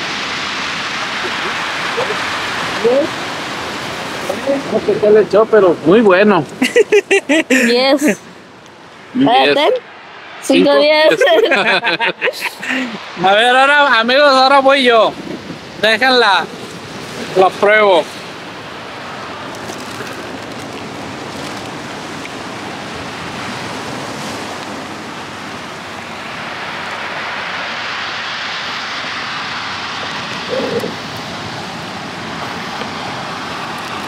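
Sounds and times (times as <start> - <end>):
surf washing against rocks: 0.0 - 34.0
wind: 0.0 - 34.0.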